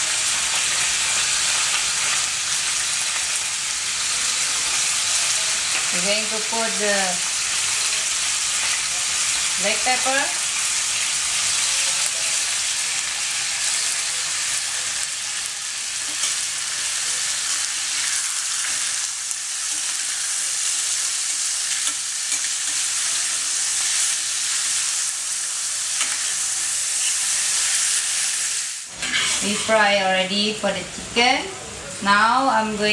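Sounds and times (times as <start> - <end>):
chicken sizzling in oil: 0.0 - 31.9.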